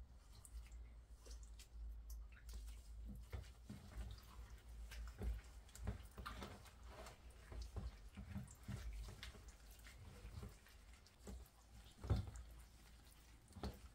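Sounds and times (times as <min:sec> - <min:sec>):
wet squelches of marinade: 0:00.0 - 0:13.9.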